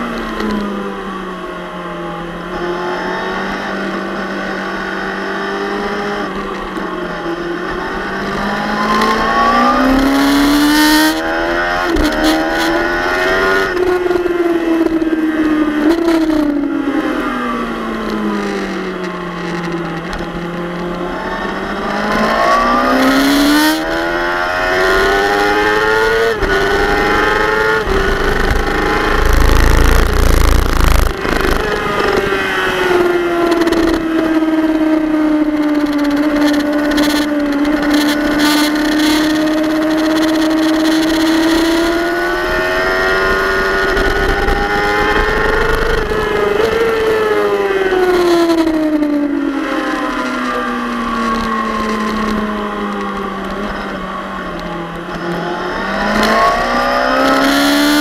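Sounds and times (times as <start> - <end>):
motorcycle engine revving: 0.0 - 58.0
wind rushing over microphone: 5.5 - 58.0.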